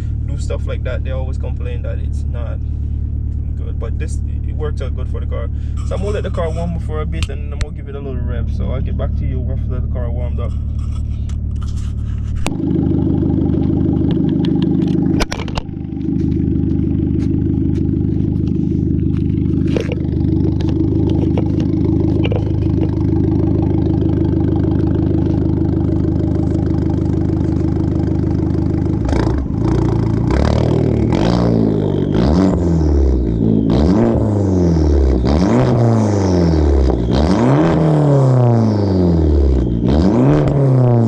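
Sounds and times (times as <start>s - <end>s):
car engine idling: 0.0s - 41.0s
car engine revving: 0.0s - 41.0s.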